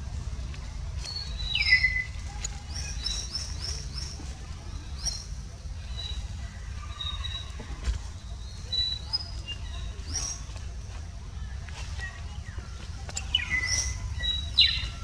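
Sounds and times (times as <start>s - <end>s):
low steady rumble: 0.0s - 15.0s
forest birds calling: 0.9s - 15.0s.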